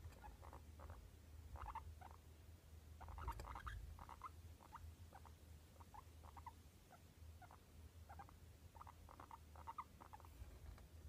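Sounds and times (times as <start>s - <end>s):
guinea pig squeaking: 0.0s - 2.2s, 3.0s - 10.3s.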